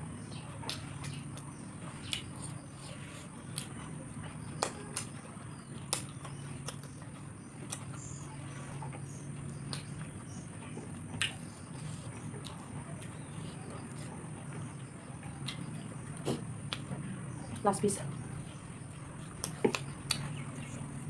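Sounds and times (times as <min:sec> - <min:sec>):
steady low hum: 0:00.0 - 0:21.0
chewing and finger clicks: 0:00.3 - 0:17.6, 0:18.5 - 0:21.0.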